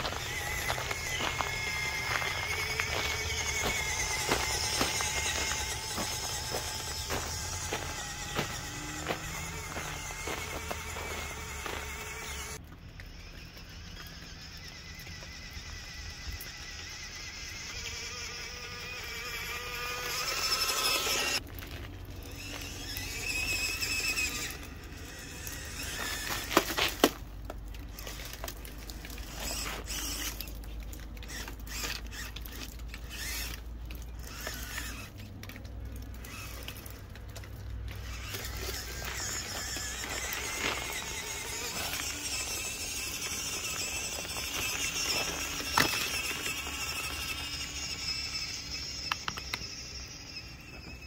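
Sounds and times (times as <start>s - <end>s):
electric motor and gears whining: 0.0s - 51.0s
tyres crunching on icy snow: 0.0s - 51.0s.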